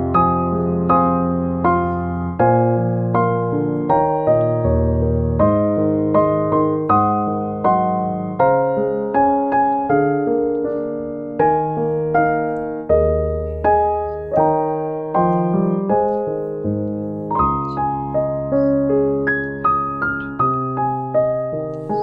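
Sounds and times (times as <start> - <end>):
slow gentle piano melody: 0.0 - 22.0.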